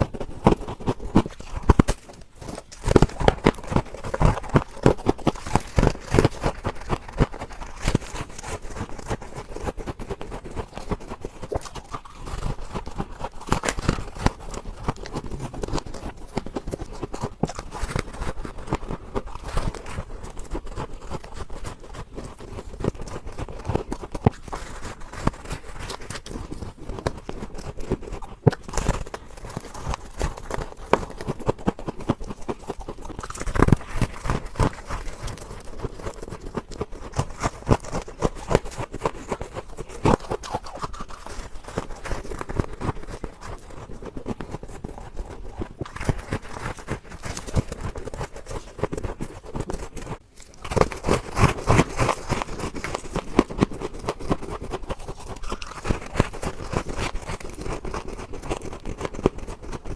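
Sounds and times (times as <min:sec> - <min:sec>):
ice being bitten and crunched: 0:00.0 - 0:59.9.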